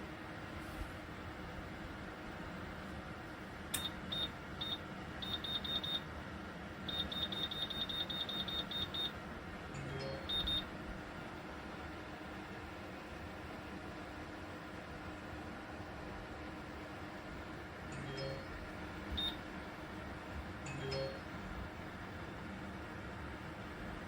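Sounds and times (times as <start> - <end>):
heater fan hiss: 0.0 - 24.0.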